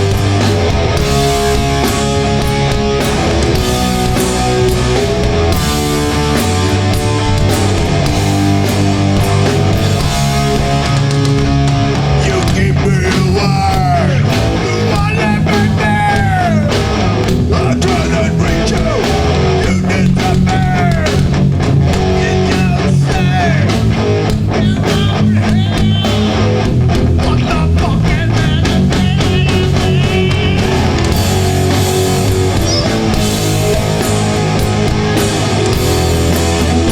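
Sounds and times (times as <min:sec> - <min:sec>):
bass guitar: 0:00.0 - 0:36.9
distorted electric guitars: 0:00.0 - 0:36.9
drums: 0:00.0 - 0:36.9
punk band playing live: 0:00.0 - 0:36.9.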